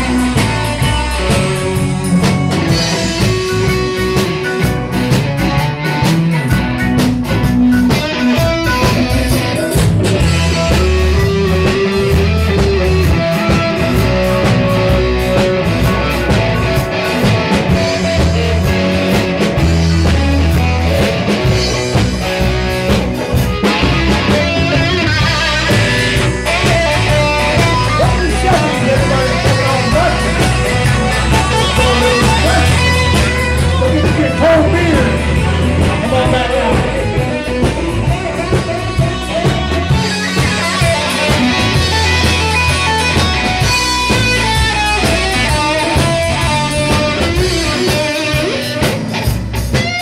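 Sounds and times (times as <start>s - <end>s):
electric guitar solo: 0.0s - 50.0s
live rock band playing: 0.0s - 50.0s.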